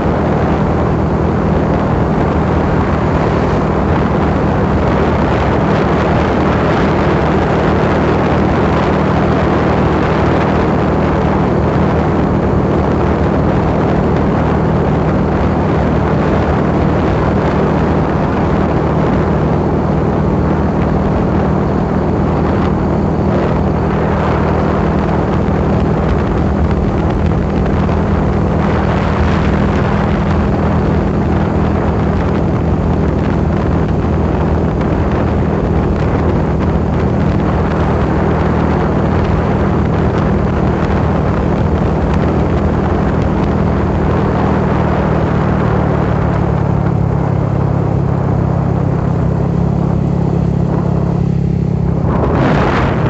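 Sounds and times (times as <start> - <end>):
vehicle engine droning: 0.0 - 53.0
wind rush: 0.0 - 53.0.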